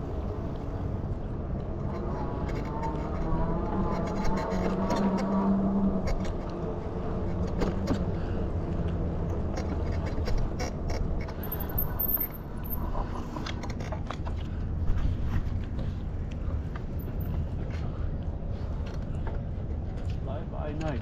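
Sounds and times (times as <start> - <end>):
bicycle riding rumble: 0.0 - 20.4.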